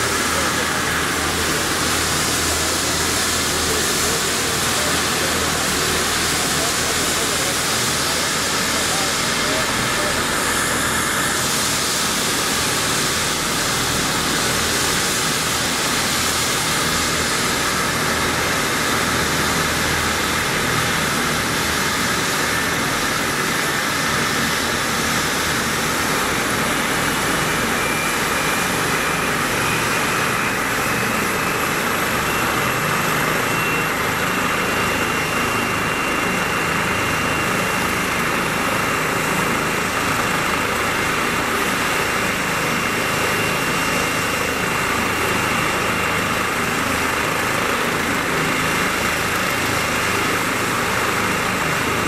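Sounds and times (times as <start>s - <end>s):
helicopter rotor and turbine roar: 0.0s - 52.0s
high turbine whine: 0.0s - 52.0s.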